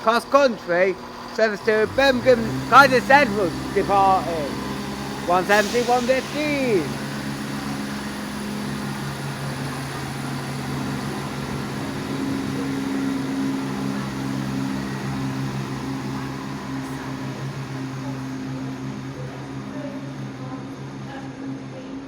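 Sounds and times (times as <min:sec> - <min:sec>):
diesel train engines humming: 0:00.0 - 0:22.0.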